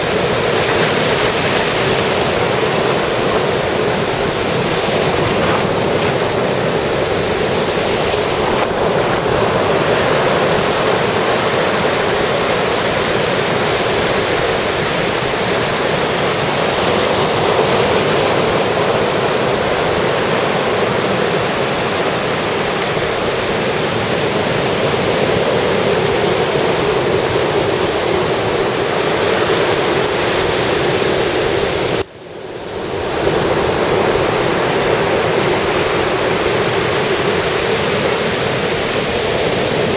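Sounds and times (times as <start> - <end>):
ocean surf waves: 0.0 - 39.9.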